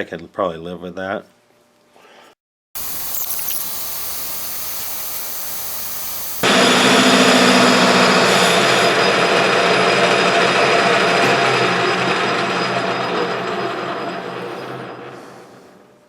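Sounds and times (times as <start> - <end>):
metal lathe turning steel: 2.8 - 15.8.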